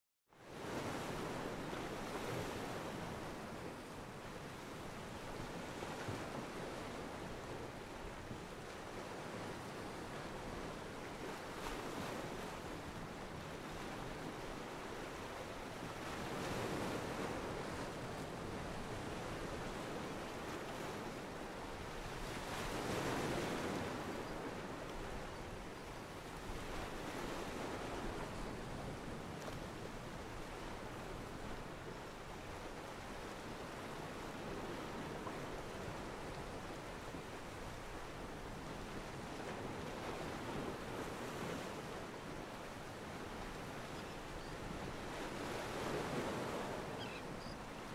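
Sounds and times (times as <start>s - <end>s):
water lapping around a pier: 0.5s - 47.9s.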